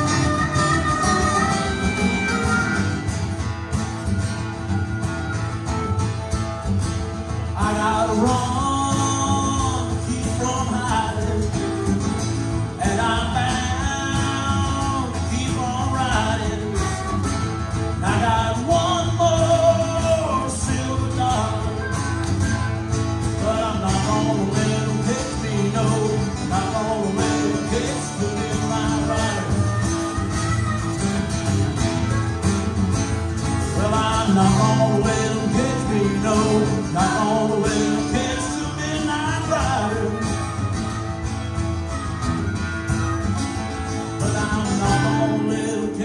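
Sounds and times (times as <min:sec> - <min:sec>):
acoustic guitars strumming: 0:00.0 - 0:46.0
harmonica melody: 0:00.0 - 0:46.0.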